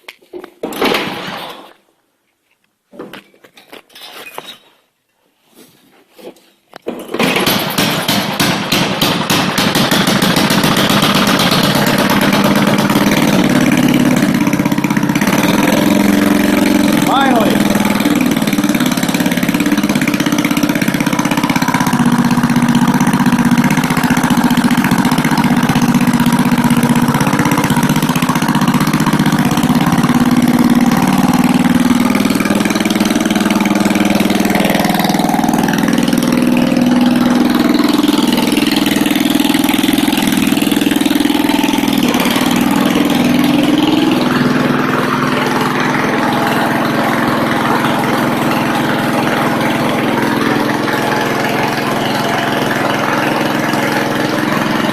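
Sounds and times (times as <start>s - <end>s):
snowblower engine running: 7.2s - 54.9s.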